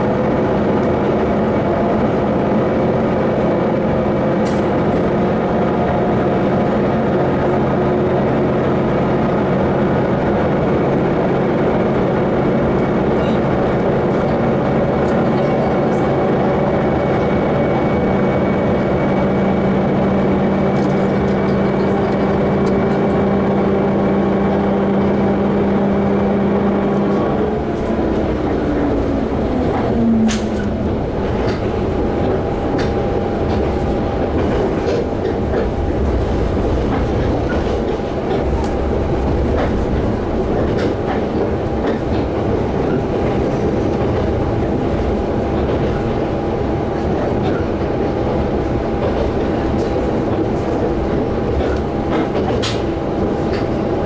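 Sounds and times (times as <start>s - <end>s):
railcar engine drone: 0.0s - 54.0s
wheel-and-rail rumble: 0.0s - 54.0s.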